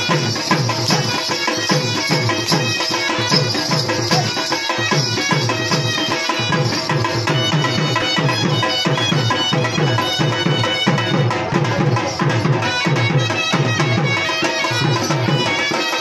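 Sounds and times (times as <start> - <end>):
folk melody: 0.0 - 16.0
higher percussion: 0.0 - 16.0.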